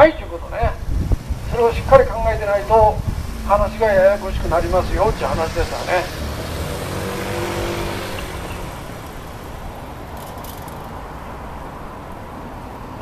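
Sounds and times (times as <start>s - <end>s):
car passing: 0.0s - 13.0s
traffic hum: 0.0s - 13.0s.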